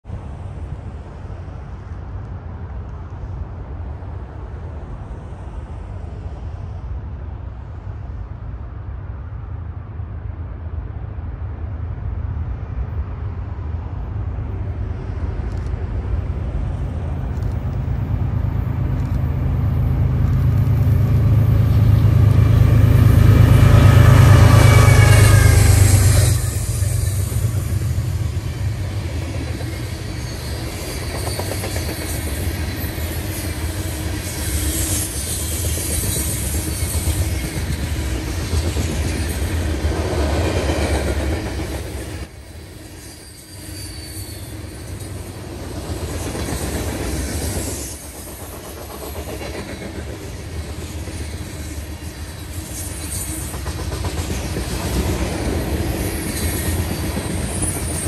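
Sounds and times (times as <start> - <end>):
train wheels rumbling on rails: 0.1 - 58.0.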